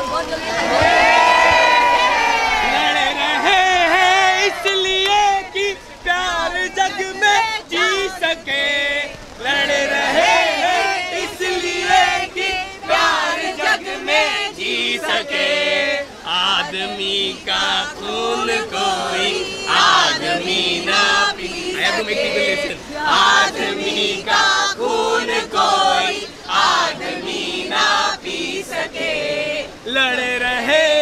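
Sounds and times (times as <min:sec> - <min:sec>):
crowd singing together: 0:00.0 - 0:31.0.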